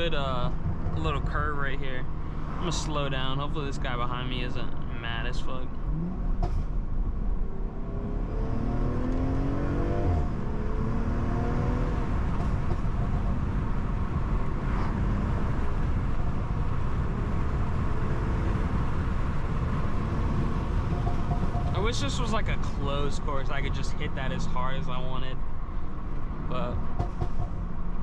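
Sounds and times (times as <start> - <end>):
car engine accelerating: 0.0 - 28.0
road noise: 0.0 - 28.0.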